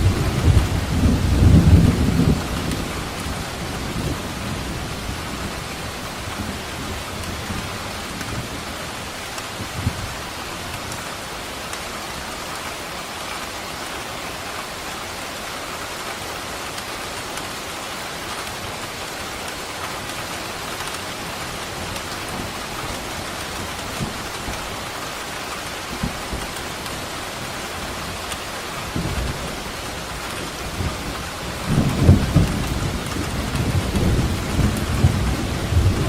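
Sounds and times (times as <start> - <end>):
rain falling on a surface: 0.0 - 36.0.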